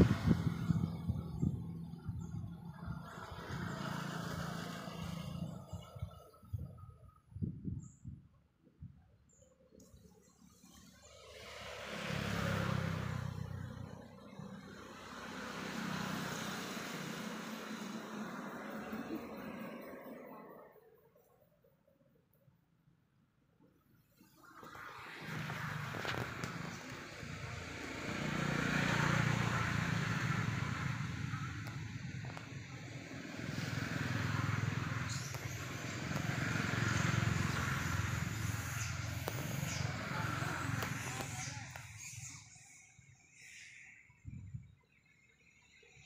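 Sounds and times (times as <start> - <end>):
vehicles passing on road: 0.0 - 21.7, 24.0 - 46.0.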